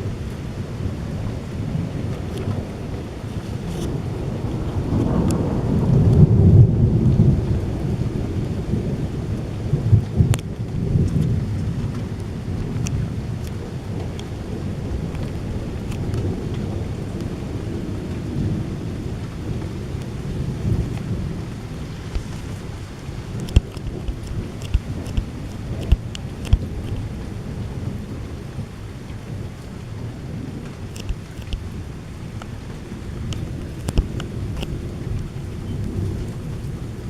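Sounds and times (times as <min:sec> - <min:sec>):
light rain: 0:00.0 - 0:37.0
rolling thunder rumble: 0:00.0 - 0:37.0.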